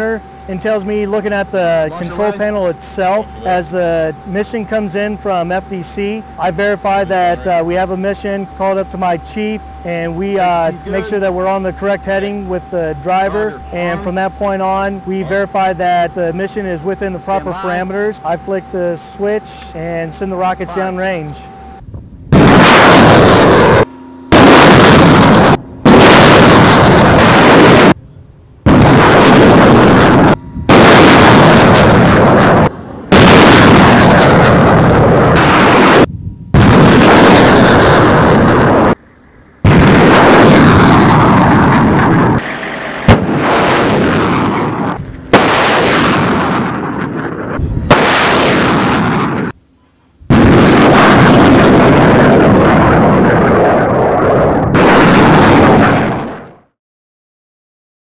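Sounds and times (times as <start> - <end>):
rocket motors roaring: 0.0 - 56.6.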